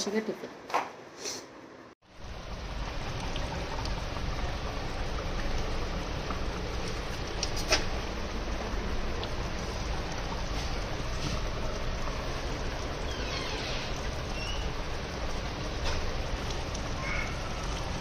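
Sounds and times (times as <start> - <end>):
pans sizzling: 2.2 - 18.0.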